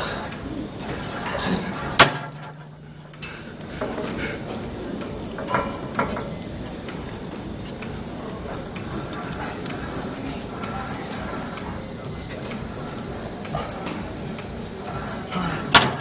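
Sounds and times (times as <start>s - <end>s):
background music with steady beat: 0.0s - 16.0s
gym weights clanking: 0.0s - 16.0s.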